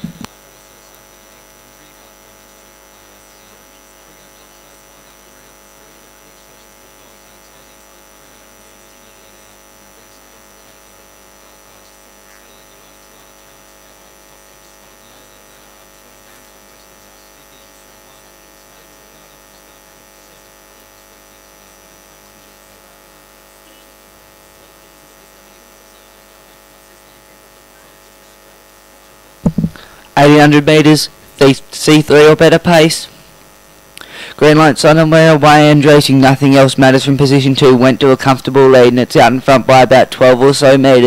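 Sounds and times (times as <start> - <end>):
electrical hum and hiss: 0.0 - 41.0.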